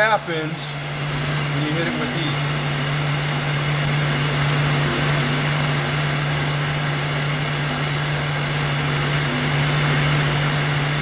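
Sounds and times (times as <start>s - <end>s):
heat gun blowing air: 0.0s - 11.0s
low steady hum: 0.0s - 11.0s.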